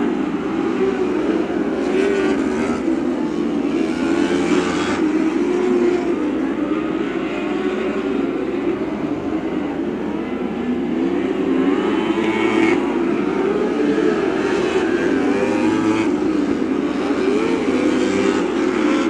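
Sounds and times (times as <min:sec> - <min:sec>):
racing car engines: 0:00.0 - 0:19.0.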